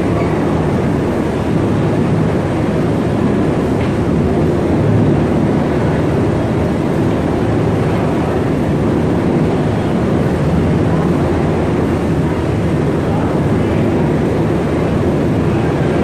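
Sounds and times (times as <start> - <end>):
helicopter hovering: 0.0 - 16.0.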